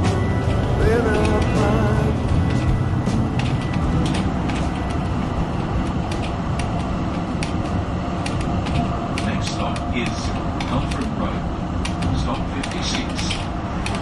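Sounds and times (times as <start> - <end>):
tram clicks and creaks: 0.0 - 14.0
tram rumbling: 0.0 - 14.0.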